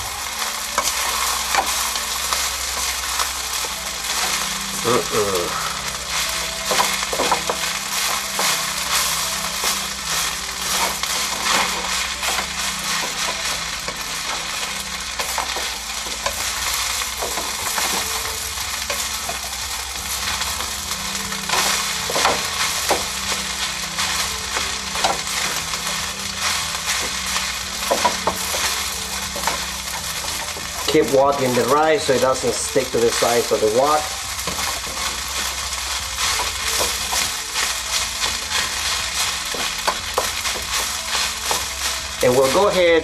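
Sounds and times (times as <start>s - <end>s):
rice sizzling in oil: 0.0s - 43.0s
spatula scraping and knocking wok: 0.0s - 43.0s.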